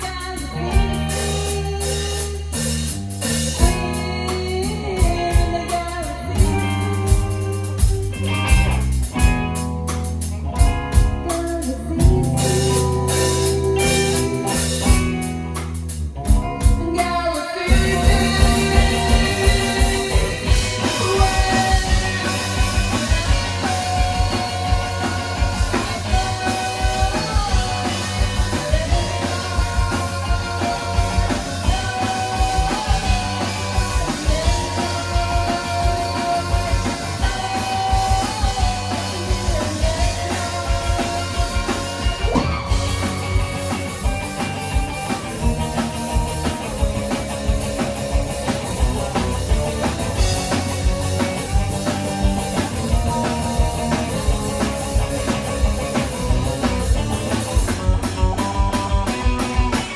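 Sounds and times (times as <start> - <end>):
drums beat: 0.0 - 59.9
live band playing: 0.0 - 59.9
sustained bass notes: 0.0 - 59.9.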